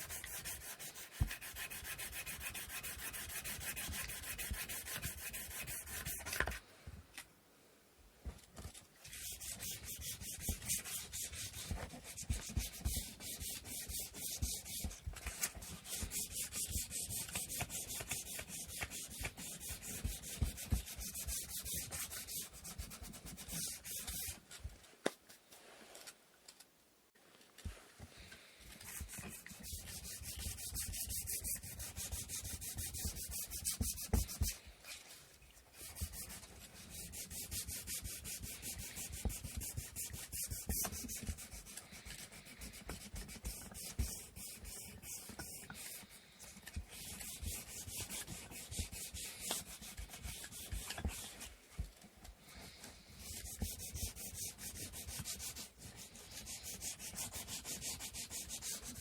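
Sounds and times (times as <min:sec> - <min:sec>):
hand sanding wood: 0:00.0 - 0:06.5, 0:09.1 - 0:24.4, 0:28.8 - 0:34.6, 0:35.8 - 0:51.5, 0:52.6 - 0:59.0.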